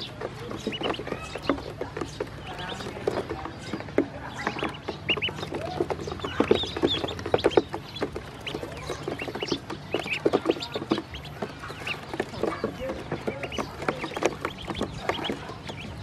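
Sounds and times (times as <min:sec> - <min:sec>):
ducklings peeping: 0:00.0 - 0:16.0.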